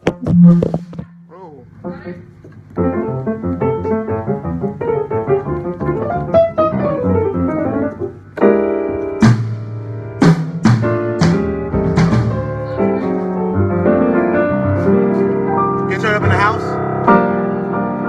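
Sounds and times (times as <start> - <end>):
piano playing: 0.0 - 18.0.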